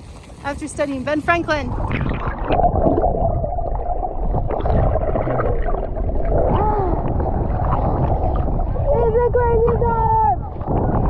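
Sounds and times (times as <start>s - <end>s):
water rushing: 0.0s - 11.0s
wind rushing: 0.6s - 11.0s.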